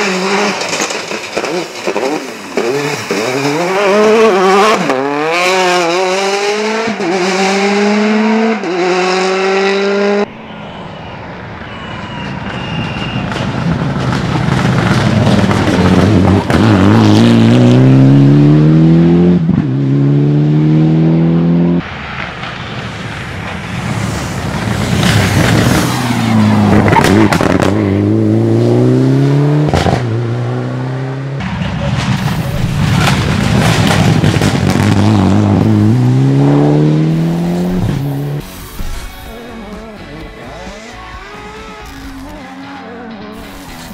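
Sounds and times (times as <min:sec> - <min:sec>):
rally car engines accelerating hard: 0:00.0 - 0:10.3, 0:12.1 - 0:43.9.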